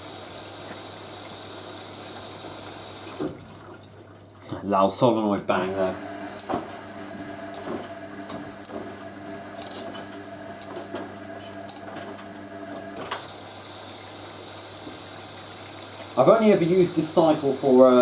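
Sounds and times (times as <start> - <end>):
washing machine hum: 0.0 - 18.0
water running into washing machine: 0.0 - 18.0.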